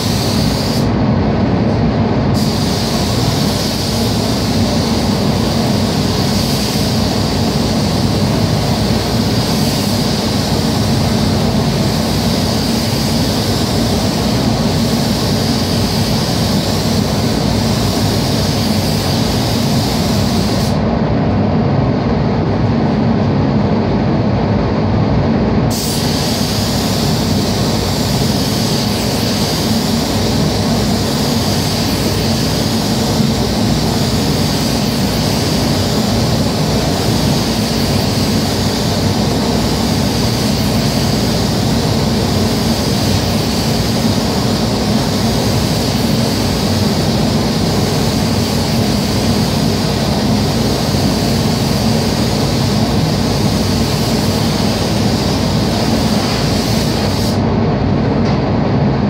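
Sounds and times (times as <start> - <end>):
paint spray gun hissing: 0.0 - 0.9, 2.4 - 20.8, 25.7 - 57.4
ventilation fans rumbling: 0.0 - 59.0.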